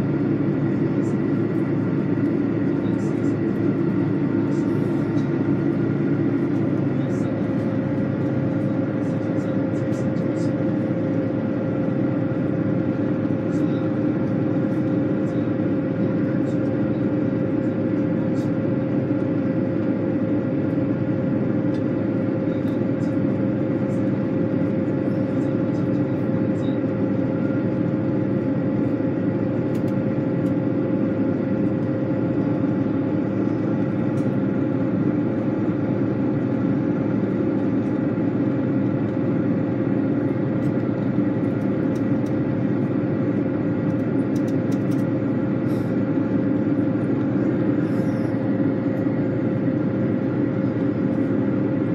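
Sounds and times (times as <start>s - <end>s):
constant hum: 0.0s - 51.9s.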